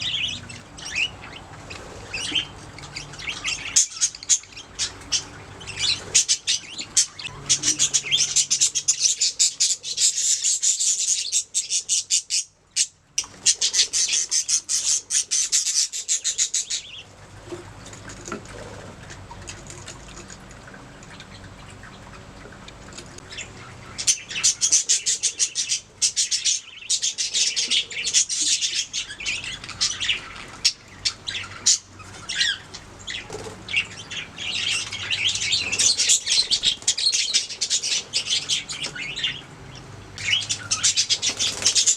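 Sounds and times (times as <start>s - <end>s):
budgerigars chirping and warbling: 0.0s - 41.9s.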